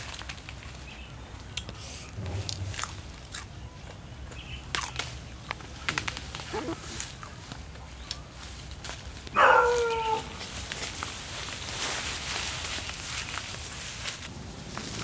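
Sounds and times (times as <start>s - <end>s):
leaves and twigs rustling: 0.0s - 15.0s
twigs cracking and snapping: 0.0s - 15.0s.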